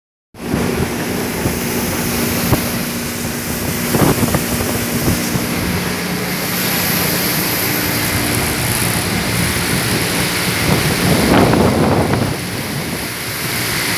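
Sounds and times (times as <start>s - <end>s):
motorboat engine humming: 0.4s - 13.9s
rushing water: 0.4s - 13.9s
wind noise on microphone: 0.4s - 13.9s.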